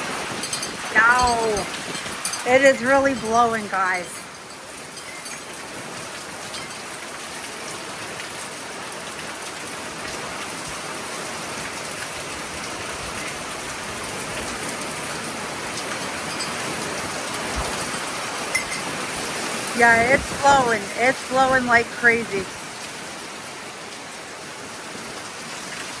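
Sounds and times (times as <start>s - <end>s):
gusting wind: 0.0s - 26.0s
heavy rain pouring: 0.0s - 26.0s.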